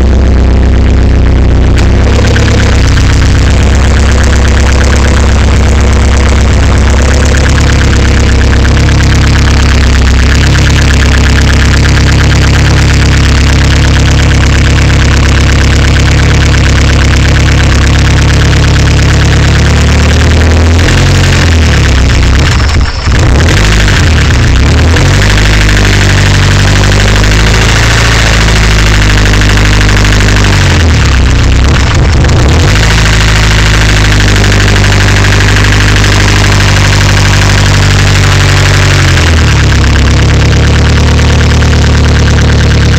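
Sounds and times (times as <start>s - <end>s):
car engine running: 0.0s - 42.9s
fast even engine rattle: 0.0s - 42.9s.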